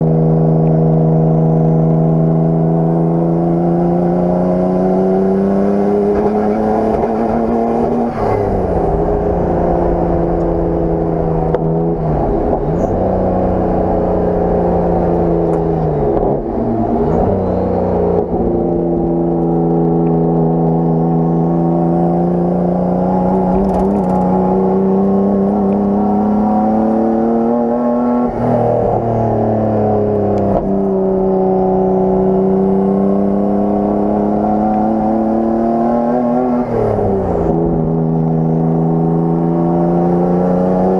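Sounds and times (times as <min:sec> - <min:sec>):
car engine revving under load: 0:00.0 - 0:40.9.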